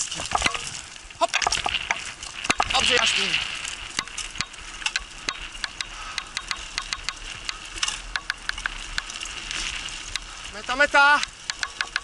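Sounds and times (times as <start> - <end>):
bicycle rattling clicks: 0.0 - 10.5, 11.1 - 12.0.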